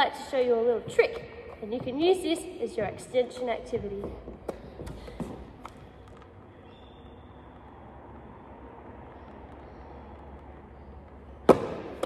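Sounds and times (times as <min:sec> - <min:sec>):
low hum of hall room tone: 0:00.0 - 0:12.0.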